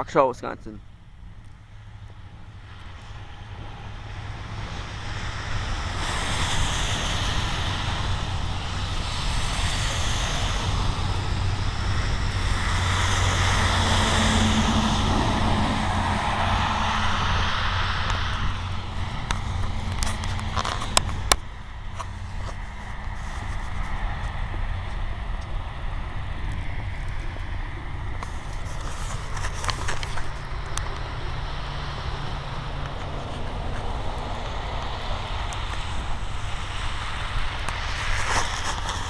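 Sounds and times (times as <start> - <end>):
steady low hum: 0.0 - 38.2
vehicle engine passing: 1.8 - 39.0.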